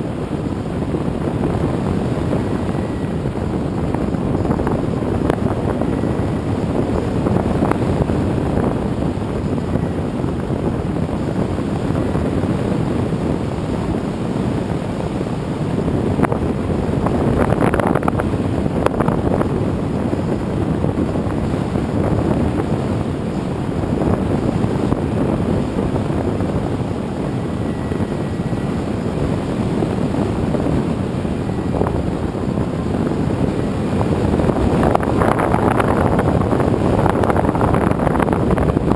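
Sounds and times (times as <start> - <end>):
propeller noise: 0.0 - 38.9
wind rushing: 0.0 - 38.9.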